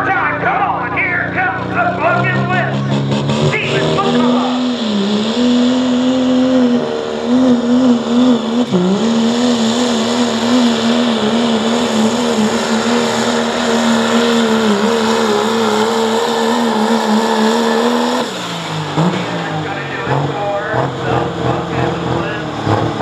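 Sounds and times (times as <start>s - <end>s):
diesel truck engine at full throttle: 0.0s - 23.0s.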